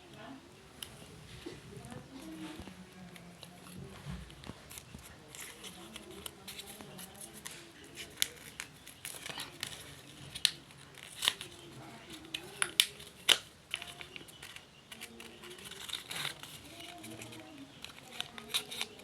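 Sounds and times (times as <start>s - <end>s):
wrapping crinkling: 2.0s - 19.0s.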